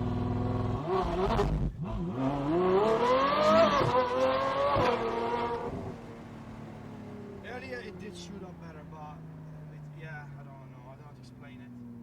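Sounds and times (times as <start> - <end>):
sports car accelerating hard: 0.0 - 12.0.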